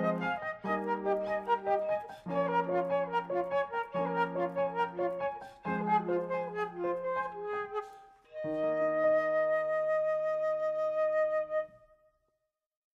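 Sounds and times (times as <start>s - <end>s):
piano: 0.0s - 12.0s
flute: 0.0s - 12.1s.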